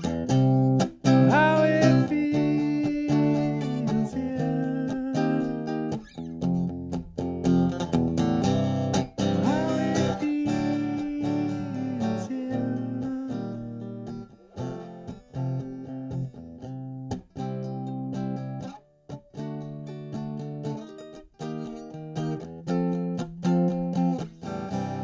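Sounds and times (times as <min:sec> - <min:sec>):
guitar strumming chords: 0:00.0 - 0:25.0.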